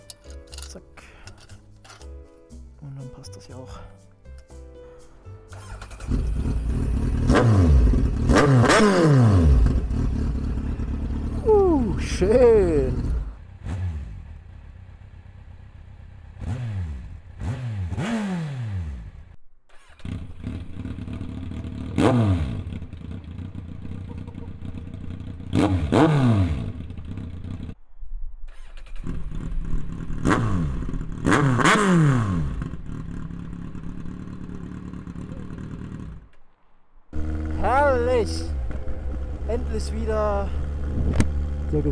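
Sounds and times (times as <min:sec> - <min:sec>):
motorcycle engine idling and revving: 0:05.5 - 0:27.8, 0:28.5 - 0:41.9.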